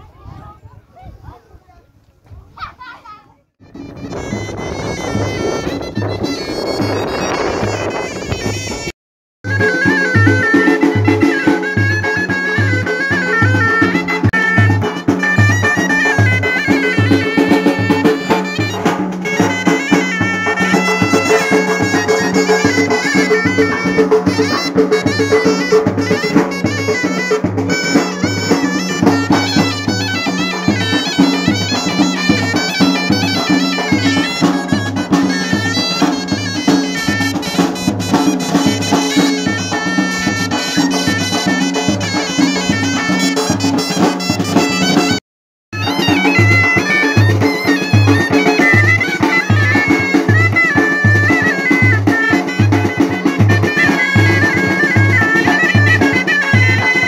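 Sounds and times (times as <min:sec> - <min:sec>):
reed pipes playing folk melody: 0:03.6 - 0:08.9, 0:09.5 - 0:45.2, 0:45.8 - 0:57.0
snare drum: 0:03.8 - 0:57.0.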